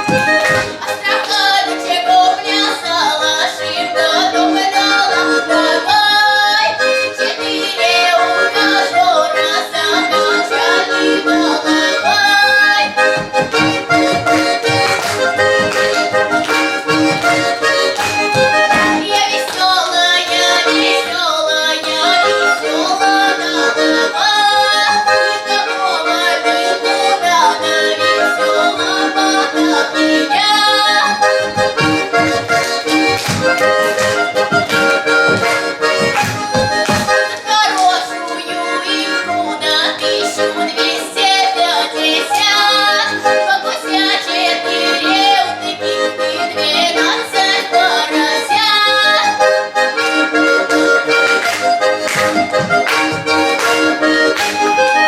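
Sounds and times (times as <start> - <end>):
accordion playing a melody: 0.0 - 55.0.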